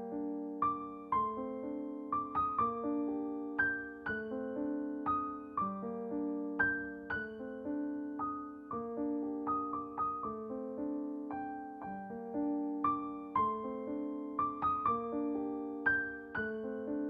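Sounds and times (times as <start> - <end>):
gentle piano-like keyboard melody: 0.0 - 17.0.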